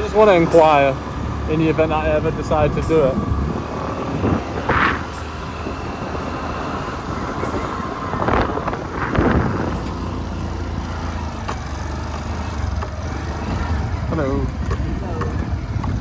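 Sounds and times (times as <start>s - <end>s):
motorbike engine running: 0.0s - 16.0s
wind and road noise: 0.0s - 16.0s.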